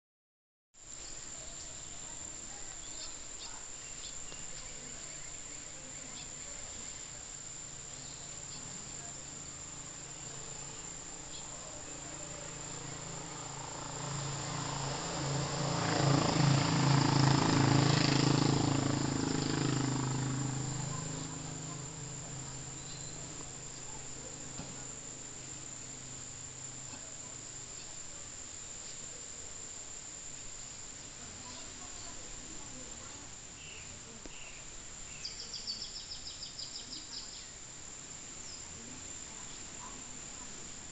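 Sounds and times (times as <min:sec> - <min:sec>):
high-pitched insect drone: 0:00.9 - 0:39.6.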